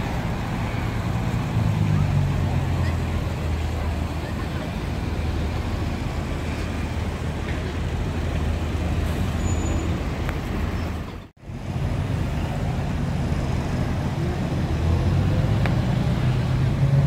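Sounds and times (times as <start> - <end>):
car engine rumbling: 0.0 - 17.0
street traffic noise: 0.0 - 17.0.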